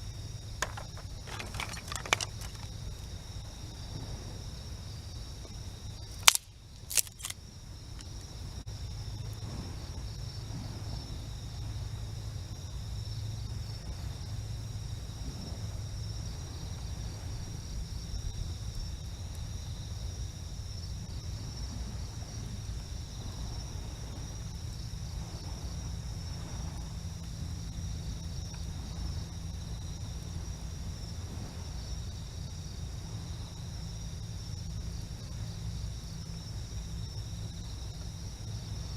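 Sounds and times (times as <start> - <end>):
low rumble of surf: 0.0 - 6.8, 7.4 - 38.9
night insects trilling: 0.0 - 38.9.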